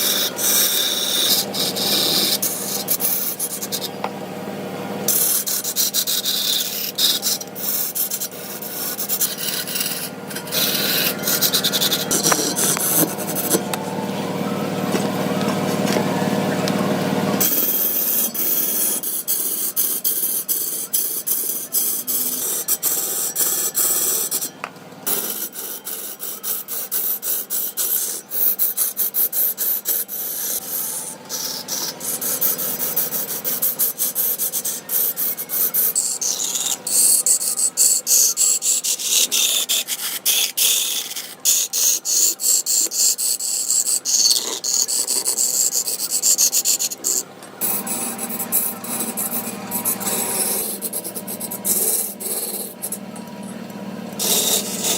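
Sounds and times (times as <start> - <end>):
hand tool rasping wood: 0.0 - 4.1, 5.1 - 13.9, 14.9 - 54.9.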